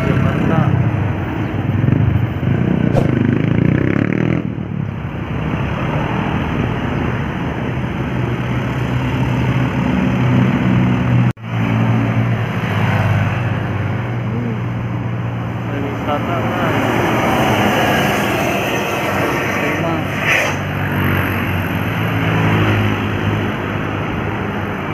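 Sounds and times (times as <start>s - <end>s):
bus diesel engines droning: 0.0s - 3.8s, 4.5s - 24.9s.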